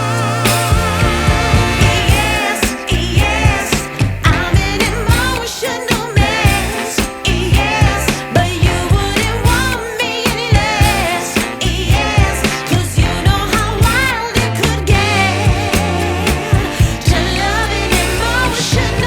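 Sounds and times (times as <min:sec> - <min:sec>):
pop-soul song with singer: 0:00.0 - 0:19.0.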